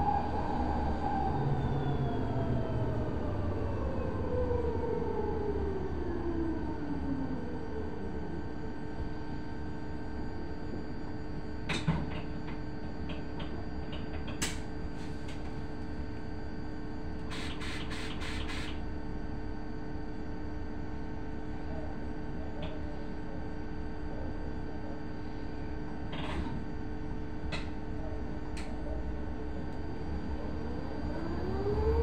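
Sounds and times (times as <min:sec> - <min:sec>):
electric bus cabin hum: 0:00.0 - 0:20.1, 0:24.0 - 0:32.0.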